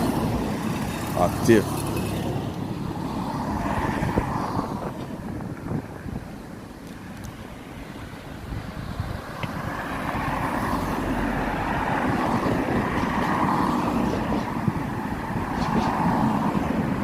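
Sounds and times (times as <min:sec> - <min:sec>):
road traffic passing: 0:00.0 - 0:17.0
wind buffeting microphone: 0:02.0 - 0:17.0.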